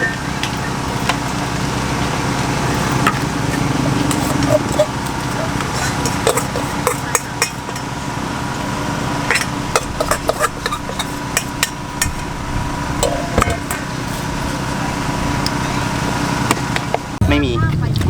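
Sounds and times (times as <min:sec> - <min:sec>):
utensils knocking and clinking: 0:00.0 - 0:15.7
steady low hum: 0:00.0 - 0:18.0.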